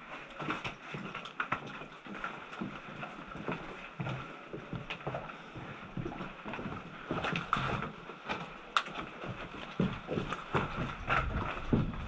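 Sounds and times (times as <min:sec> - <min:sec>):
gear and clothing rustling: 0:00.0 - 0:12.0.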